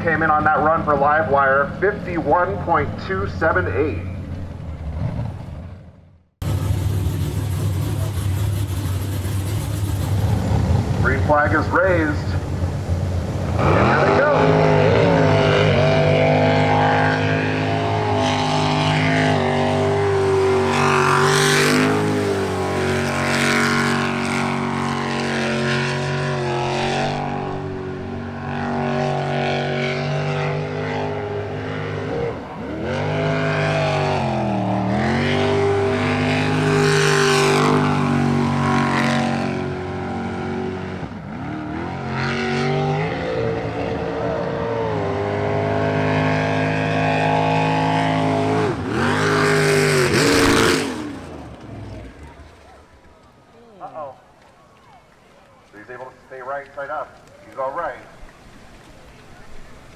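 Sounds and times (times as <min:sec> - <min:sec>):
boat engine running at high revs: 0:04.2 - 0:53.0.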